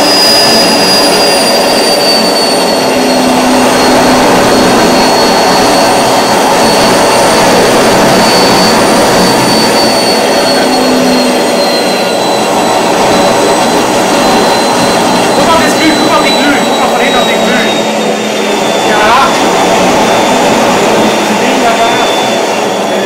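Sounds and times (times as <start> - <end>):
high turbine whine: 0.0 - 23.0
jet engine roaring rush: 0.0 - 23.0.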